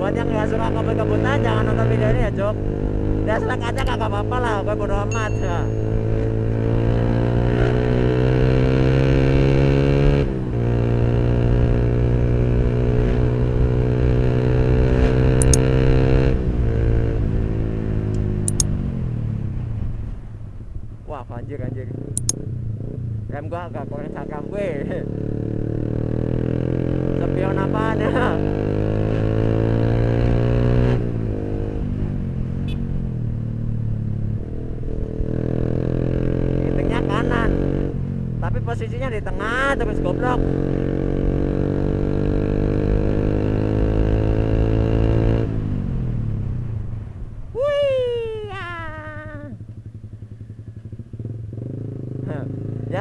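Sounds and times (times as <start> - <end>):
motorcycle engine revving: 0.0 - 19.7, 21.5 - 47.0, 49.2 - 53.0.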